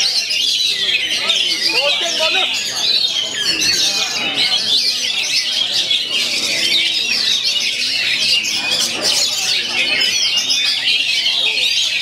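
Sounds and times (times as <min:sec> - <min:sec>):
birds singing in chorus: 0:00.0 - 0:12.0.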